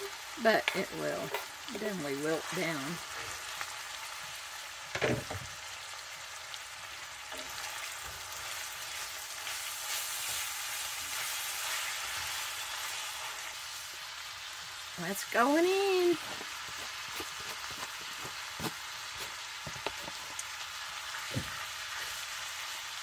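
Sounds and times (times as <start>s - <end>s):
food sizzling in a skillet: 0.0s - 23.0s.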